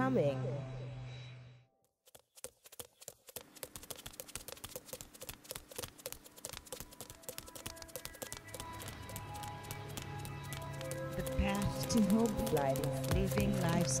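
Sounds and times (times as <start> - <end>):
rapid irregular clicking: 2.1 - 14.0.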